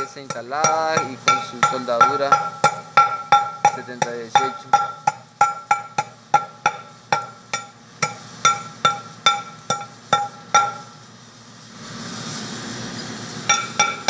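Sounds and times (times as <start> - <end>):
steel bar striking metal rim: 0.0 - 11.0, 13.5 - 14.0.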